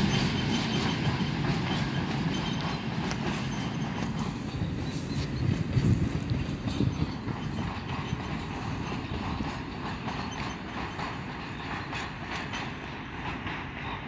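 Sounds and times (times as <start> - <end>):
train wheels rumbling on rail: 0.0 - 14.0
wheels clacking over rail joints: 0.0 - 14.0.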